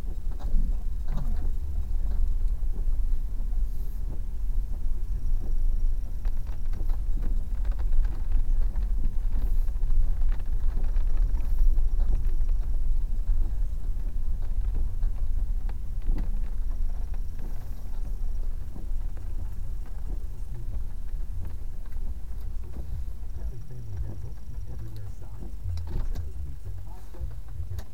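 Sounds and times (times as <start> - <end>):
car rumble from inside cabin: 0.0 - 27.9.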